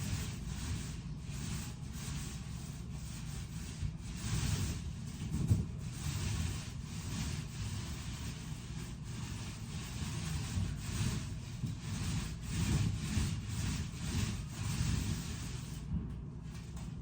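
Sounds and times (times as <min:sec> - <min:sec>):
rubbing strokes on surface: 0:00.0 - 0:17.0.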